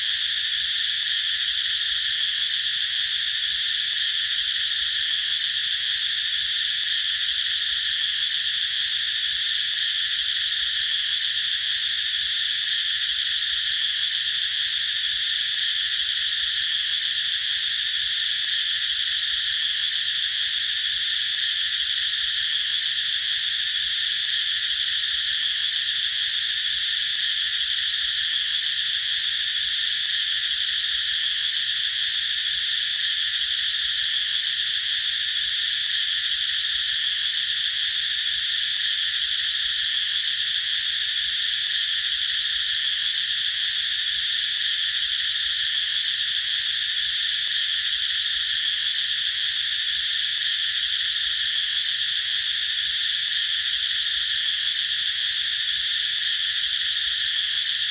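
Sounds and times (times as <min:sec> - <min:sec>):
cicadas singing: 0:00.0 - 0:57.9.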